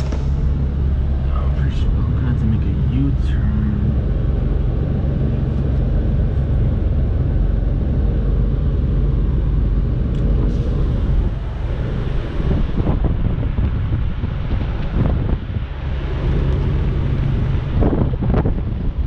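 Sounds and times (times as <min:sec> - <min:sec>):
diesel truck engine rumbling: 0:00.0 - 0:19.0
wind buffeting microphone: 0:00.0 - 0:19.0.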